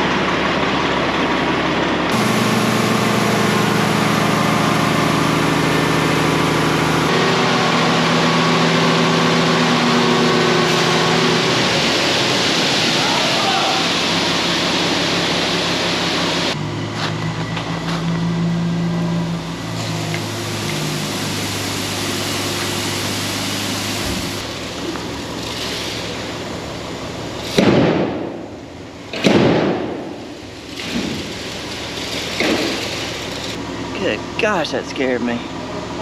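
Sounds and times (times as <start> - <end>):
engine humming: 0.0 - 36.0.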